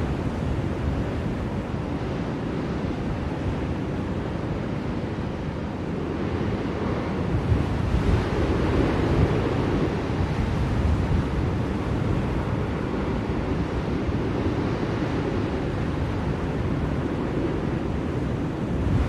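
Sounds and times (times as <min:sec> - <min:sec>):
blizzard wind rushing: 0:00.0 - 0:19.0.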